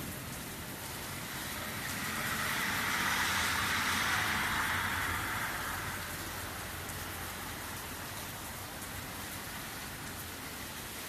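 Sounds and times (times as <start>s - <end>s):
car tyres hissing on wet road: 0.0s - 11.0s
steady rain: 0.0s - 11.0s.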